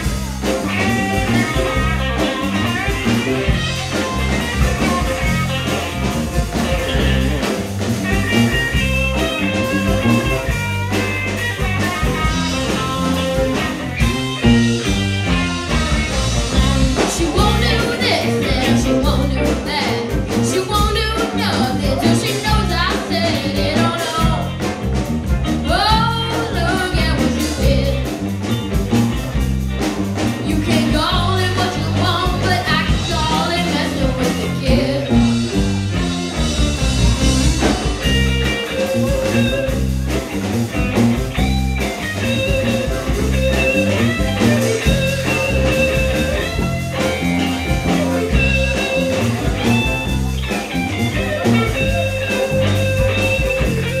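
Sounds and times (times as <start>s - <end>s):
live blues-rock band playing: 0.0s - 54.0s.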